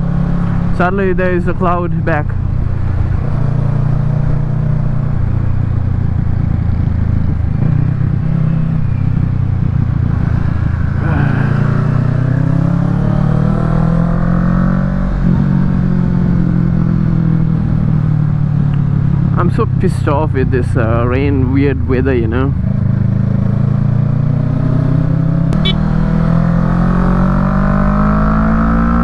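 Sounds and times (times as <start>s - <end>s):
motorcycle engine revving: 0.0s - 20.1s, 20.8s - 29.0s.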